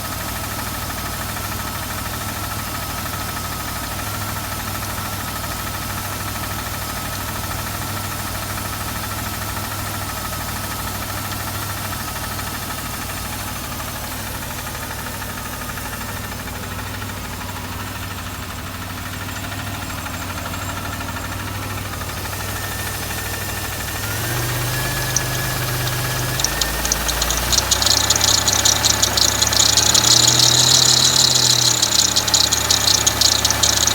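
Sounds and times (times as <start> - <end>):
car engine idling: 0.0 - 33.9
loud ticking engine knock: 0.0 - 33.9.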